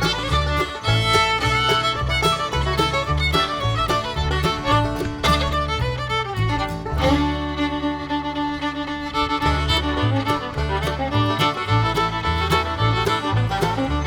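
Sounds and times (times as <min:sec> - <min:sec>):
upbeat fiddle music with beat: 0:00.0 - 0:14.0.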